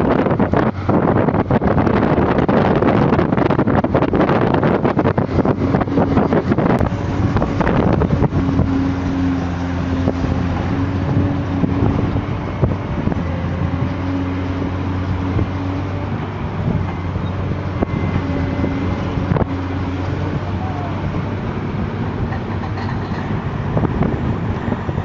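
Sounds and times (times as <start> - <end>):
heavy machine engine droning: 0.0 - 25.0
wind buffeting microphone: 0.0 - 25.0.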